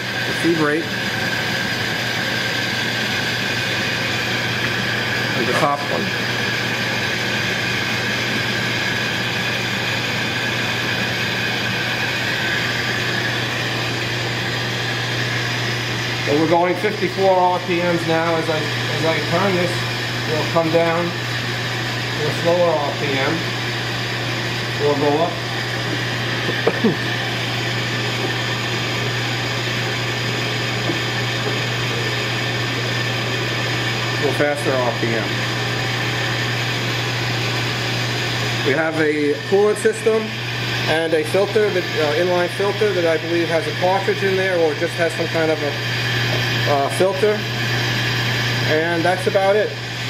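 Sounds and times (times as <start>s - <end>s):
grinder machine humming: 0.0s - 50.0s.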